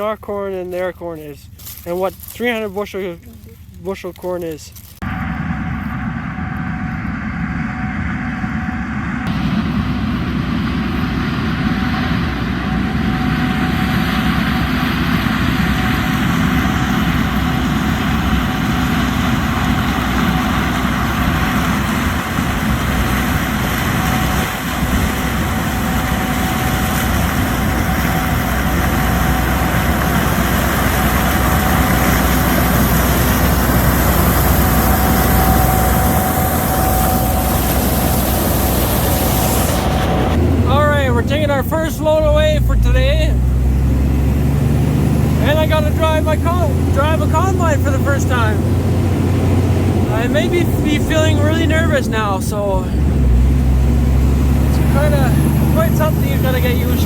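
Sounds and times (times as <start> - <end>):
diesel engine drone: 0.0 - 57.0
thin steady whine: 5.0 - 44.3, 45.4 - 53.0.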